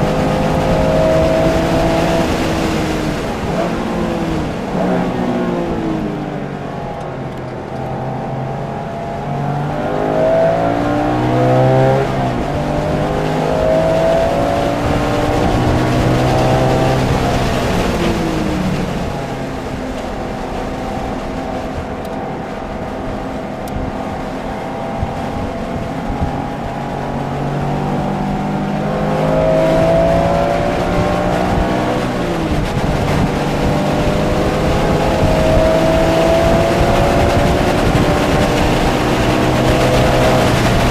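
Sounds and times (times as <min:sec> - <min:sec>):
car engine accelerating hard: 0:00.0 - 0:40.9
wind noise: 0:00.0 - 0:40.9.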